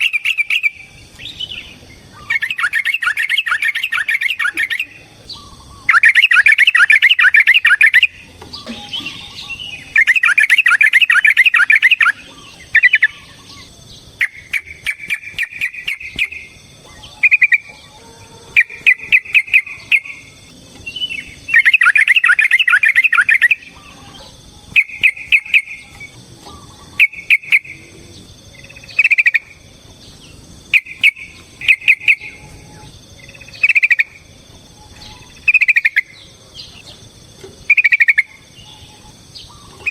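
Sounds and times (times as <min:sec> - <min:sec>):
bird bubbly chattering song: 0:00.0 - 0:39.9.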